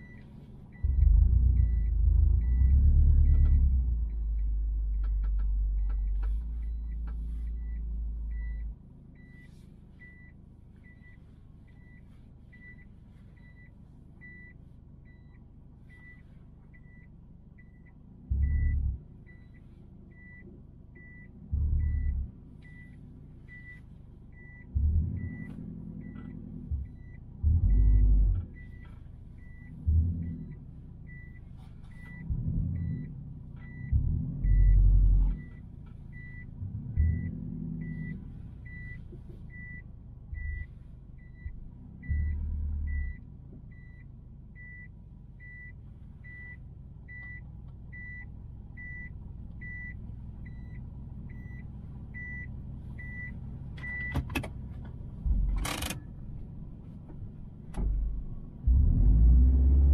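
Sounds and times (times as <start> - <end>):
car cabin road and engine rumble: 0.0 - 59.9.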